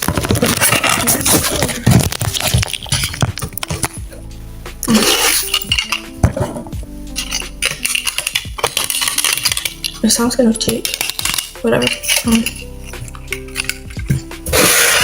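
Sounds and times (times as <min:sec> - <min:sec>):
objects clinking and rattling: 0:00.0 - 0:04.2, 0:04.8 - 0:15.0
music playing: 0:00.0 - 0:15.0.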